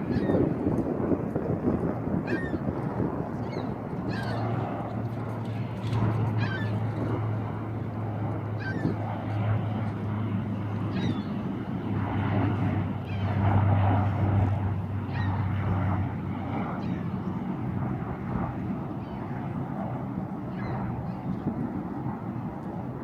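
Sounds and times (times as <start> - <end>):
turboprop airliner droning past: 0.0 - 23.0.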